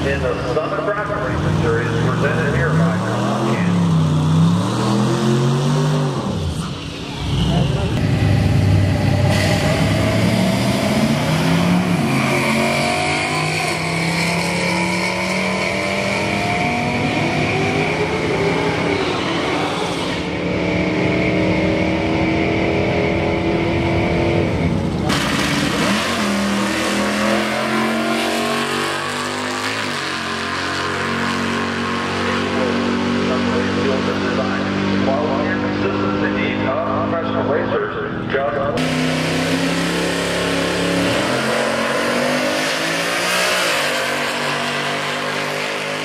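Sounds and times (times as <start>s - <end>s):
drag race cars accelerating: 0.0s - 46.0s.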